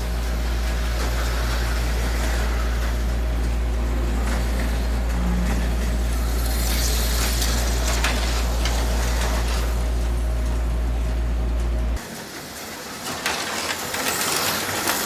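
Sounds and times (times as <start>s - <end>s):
low electric hum: 0.0s - 12.0s
slot car motors whirring: 0.0s - 15.0s.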